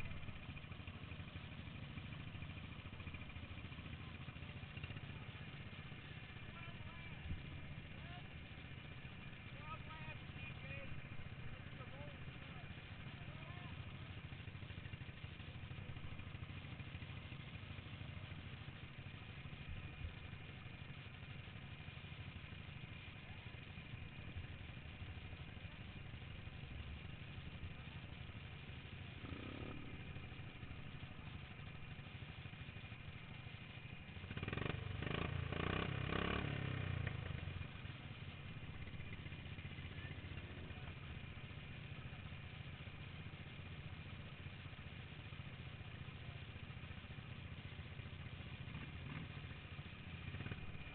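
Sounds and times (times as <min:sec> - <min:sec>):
lawn mower engine running: 0:00.0 - 0:50.9.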